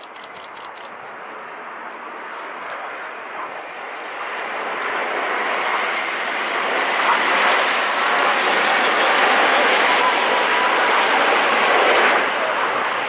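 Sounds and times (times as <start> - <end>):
jet aircraft roar: 0.0 - 13.0.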